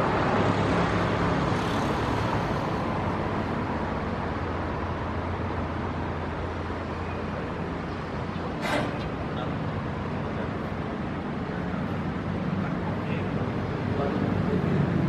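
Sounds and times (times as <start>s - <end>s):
city road traffic hum: 0.0s - 15.0s.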